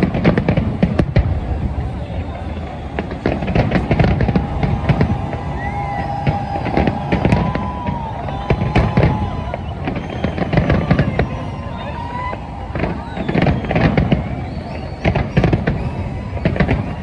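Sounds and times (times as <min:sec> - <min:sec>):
fireworks banging and crackling: 0:00.0 - 0:17.0.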